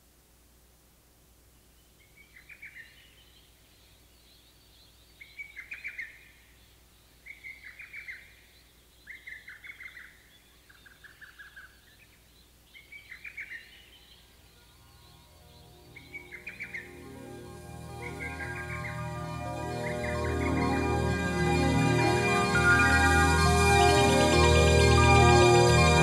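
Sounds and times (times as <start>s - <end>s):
recorded birdsong chirping: 1.5s - 26.0s.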